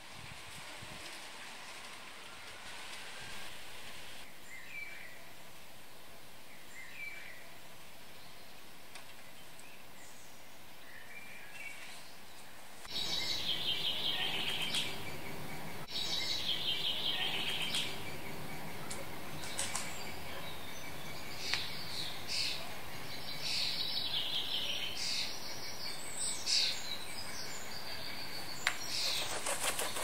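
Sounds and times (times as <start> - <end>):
songbirds chirping: 1.6 - 30.0.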